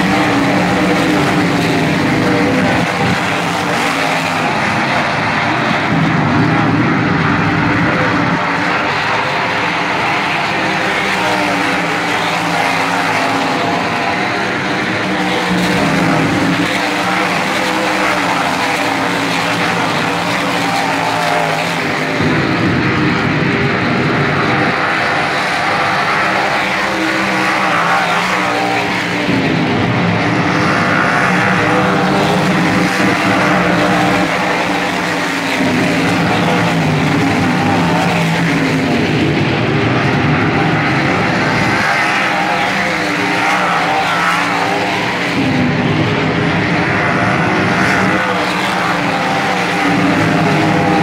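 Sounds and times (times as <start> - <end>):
race car engines running hard: 0.0 - 51.0.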